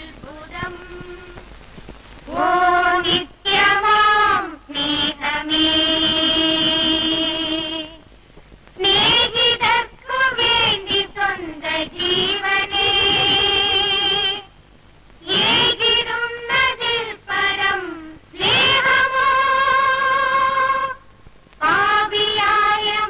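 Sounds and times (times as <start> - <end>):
women singing slow melody: 0.0 - 1.6, 2.2 - 8.1, 8.8 - 14.6, 15.2 - 23.0.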